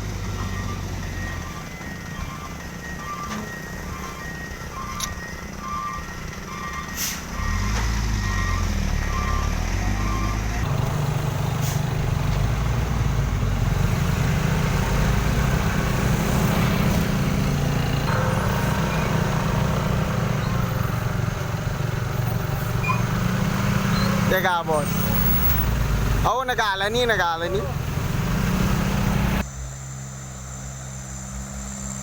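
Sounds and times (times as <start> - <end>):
reversing alarm beeping: 0.0 - 29.2
truck engine rumbling: 0.0 - 32.0.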